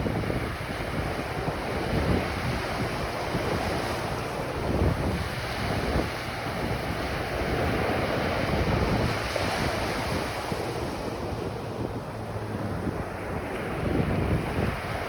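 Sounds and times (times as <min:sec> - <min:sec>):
ocean surf washing onto beach: 0:00.0 - 0:15.0
wind buffeting microphone: 0:00.0 - 0:15.0.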